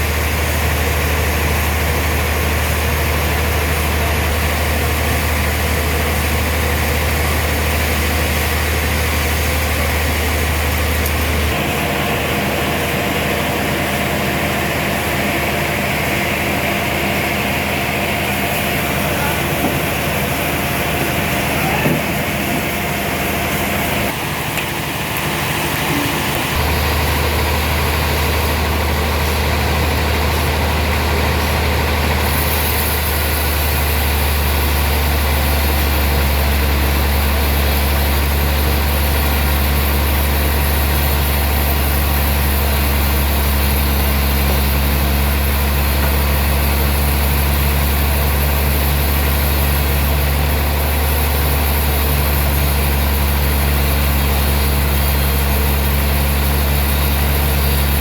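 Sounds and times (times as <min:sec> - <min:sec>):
deep machinery hum: 0:00.0 - 0:58.0.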